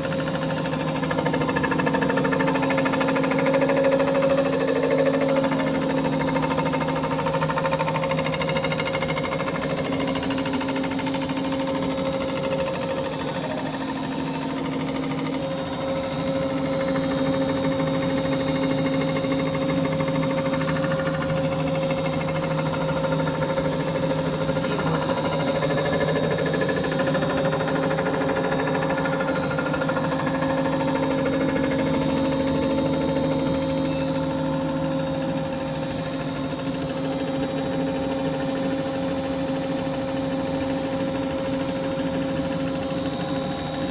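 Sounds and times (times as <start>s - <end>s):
machine tool humming: 0.0s - 43.9s.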